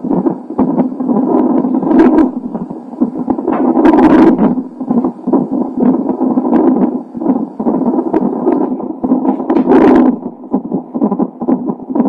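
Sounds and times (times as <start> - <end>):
fetal heartbeat on doppler monitor: 0.0 - 12.0.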